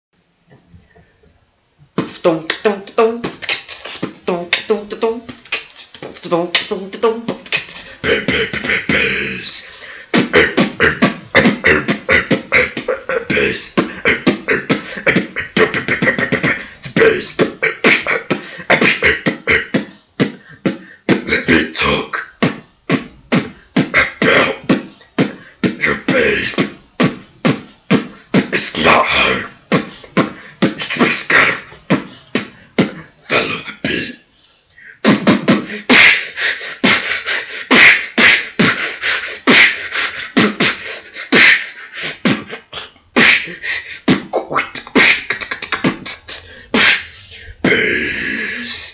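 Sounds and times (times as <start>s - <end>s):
beatboxing: 1.8s - 48.9s.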